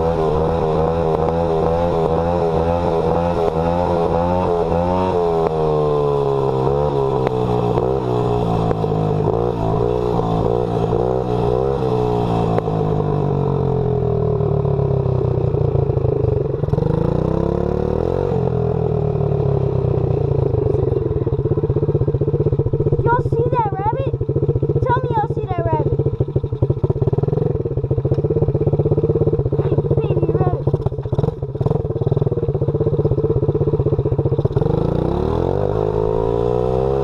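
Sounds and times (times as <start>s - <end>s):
dirt bike engine revving: 0.0s - 13.9s, 16.2s - 37.0s.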